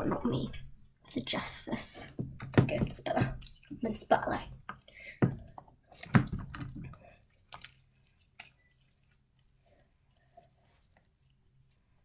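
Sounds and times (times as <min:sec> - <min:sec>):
slime squelching: 0:01.4 - 0:12.0.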